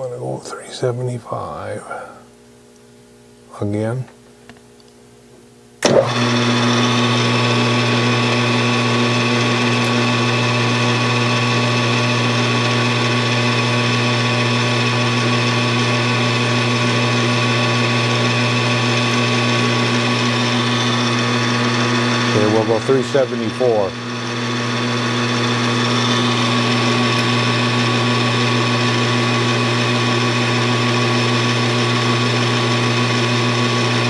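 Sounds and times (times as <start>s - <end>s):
lathe motor humming: 5.8s - 34.0s.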